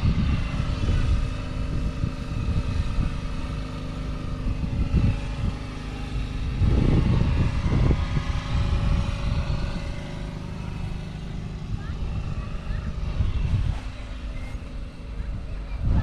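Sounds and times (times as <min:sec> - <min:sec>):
engine humming: 0:00.0 - 0:16.0
wind buffeting microphone: 0:00.0 - 0:16.0.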